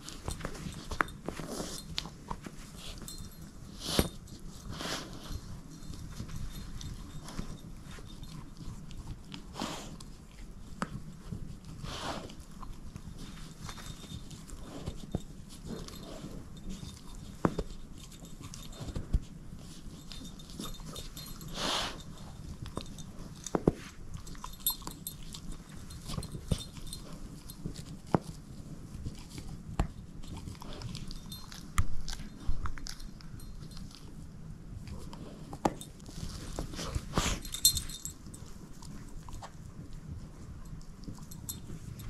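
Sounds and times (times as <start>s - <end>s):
dog chewing toy: 0.0s - 42.0s.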